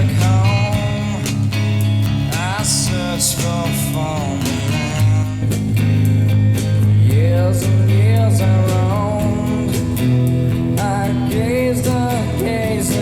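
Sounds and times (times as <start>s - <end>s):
rock song over loudspeakers: 0.0s - 13.0s.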